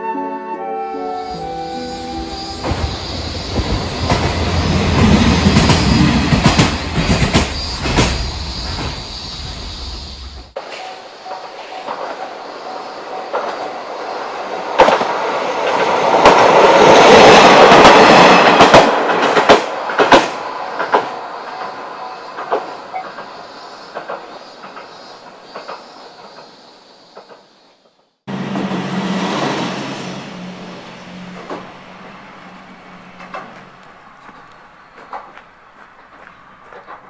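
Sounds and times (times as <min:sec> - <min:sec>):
diesel railcar passing: 0:00.6 - 0:37.0.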